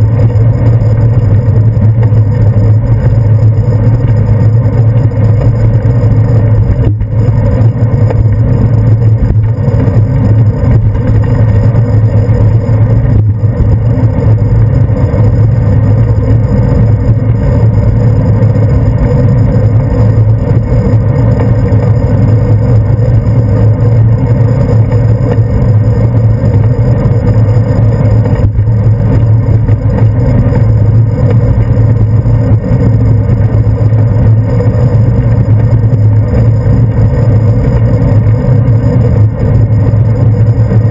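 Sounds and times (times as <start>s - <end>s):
bicycle road vibration: 0.0s - 40.9s
wind rumble: 0.0s - 40.9s.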